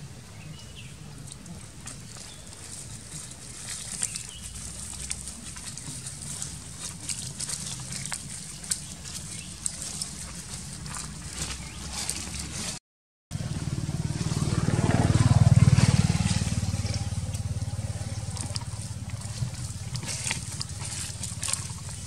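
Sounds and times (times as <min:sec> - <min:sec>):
dry leaves crackling: 0:01.4 - 0:12.8, 0:13.4 - 0:22.0
vehicle engine passing: 0:02.6 - 0:22.0.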